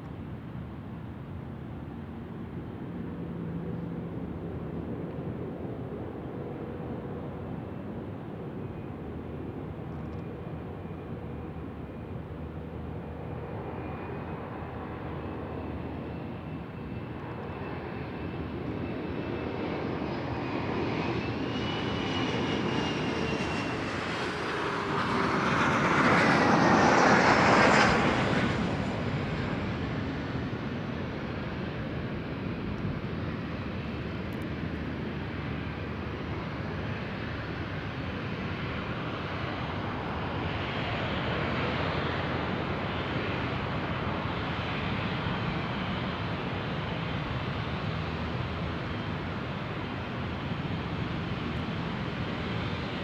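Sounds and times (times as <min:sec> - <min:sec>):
jet airliner taxiing: 0:00.1 - 0:53.0.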